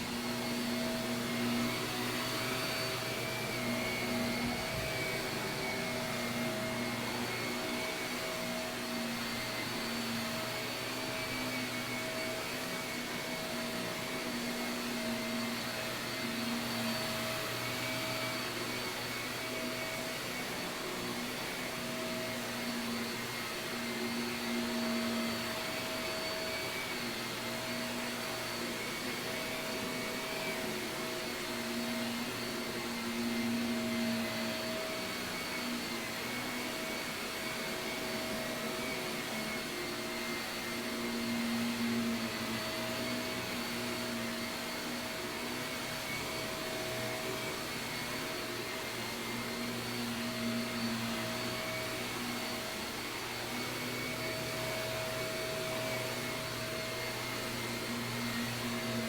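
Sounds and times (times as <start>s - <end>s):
vacuum cleaner running over carpet: 0.0s - 59.0s.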